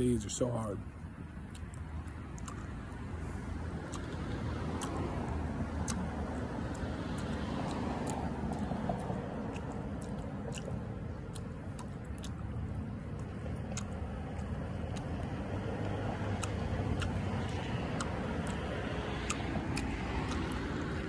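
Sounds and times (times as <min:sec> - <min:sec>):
person chewing and biting fruit: 0:01.1 - 0:21.0.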